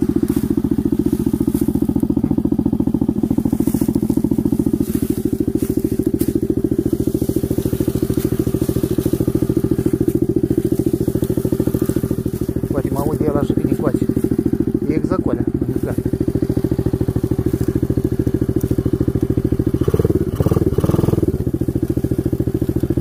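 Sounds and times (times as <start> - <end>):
atv engine running: 0.0 - 23.0.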